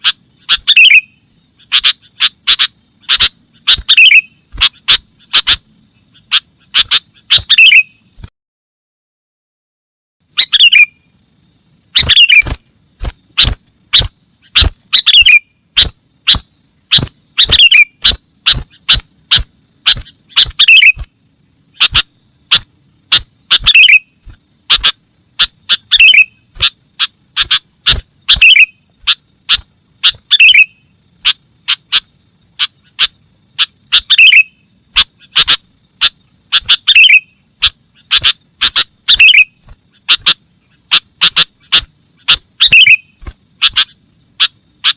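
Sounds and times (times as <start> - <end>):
bird chirps: 0.0 - 8.3, 10.2 - 44.9
high insect-like buzz: 0.0 - 8.3, 10.2 - 44.9.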